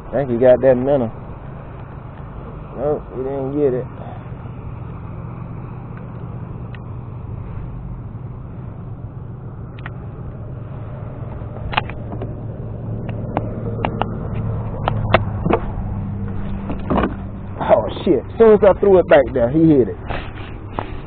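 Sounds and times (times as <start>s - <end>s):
boat motor humming: 0.0s - 21.0s.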